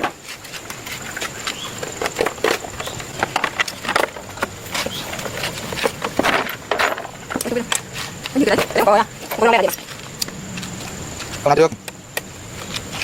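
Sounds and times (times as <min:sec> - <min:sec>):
hand tools clicking and knocking: 0:00.0 - 0:13.0.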